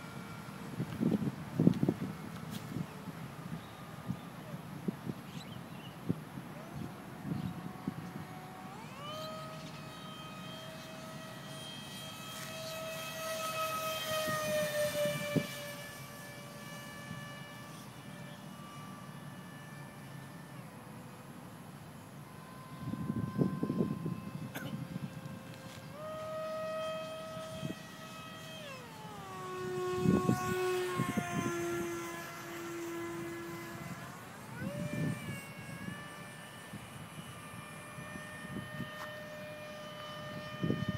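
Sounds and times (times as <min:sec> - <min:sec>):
electric ducted fan whining: 0:00.0 - 0:40.9.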